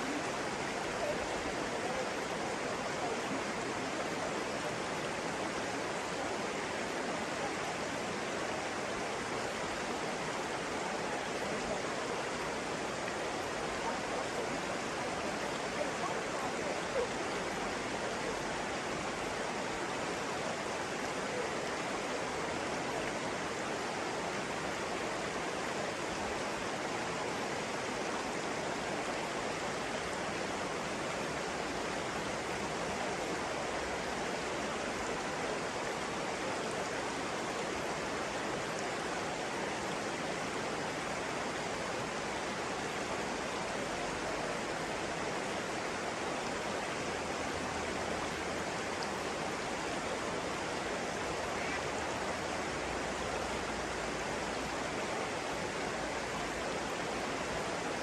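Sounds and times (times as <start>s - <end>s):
water rushing steadily: 0.0s - 58.0s.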